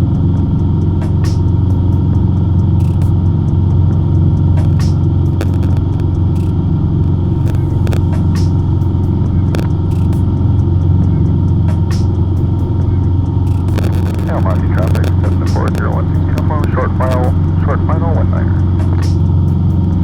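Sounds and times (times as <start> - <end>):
airplane engine and propeller droning: 0.0 - 20.0.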